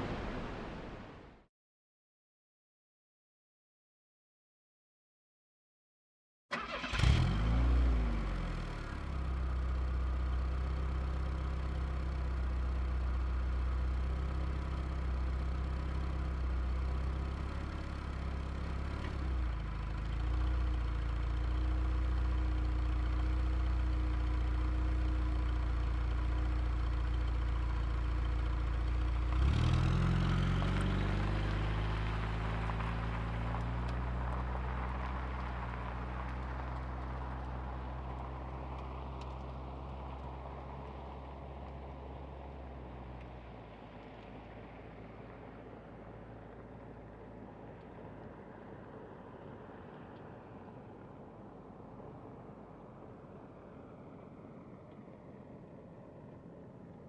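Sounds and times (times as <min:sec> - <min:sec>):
car engine starting and idling: 0:06.5 - 0:57.0.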